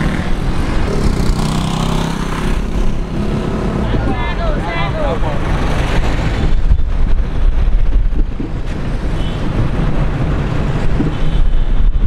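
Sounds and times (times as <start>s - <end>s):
low road rumble: 0.0s - 12.0s
wind buffeting microphone: 0.0s - 12.0s.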